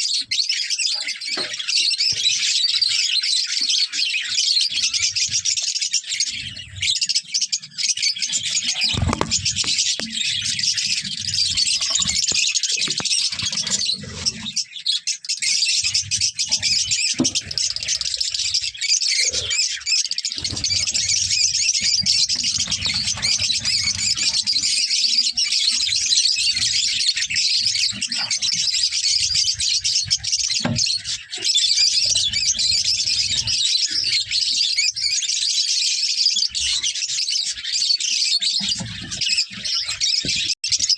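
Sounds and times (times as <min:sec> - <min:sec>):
lovebirds chattering and chirping: 0:00.0 - 0:40.9.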